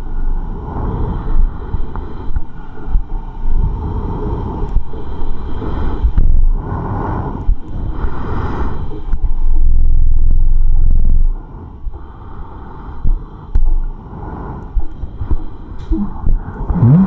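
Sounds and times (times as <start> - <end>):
breathing through a respirator: 0.0 - 9.9, 11.4 - 17.0.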